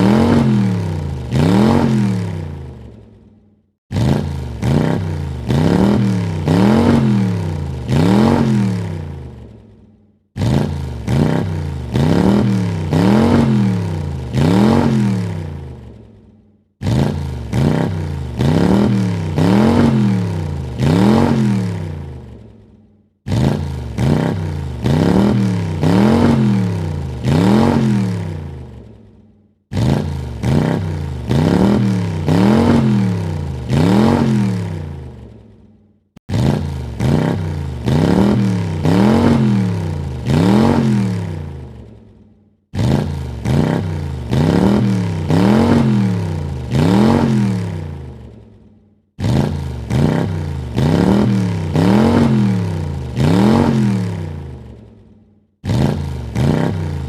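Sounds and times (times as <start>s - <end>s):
car engine revving: 0.0s - 3.1s, 3.9s - 9.7s, 10.4s - 16.2s, 16.8s - 22.6s, 23.2s - 29.1s, 29.7s - 35.5s, 36.2s - 42.0s, 42.7s - 48.4s, 49.2s - 54.9s, 55.6s - 57.0s.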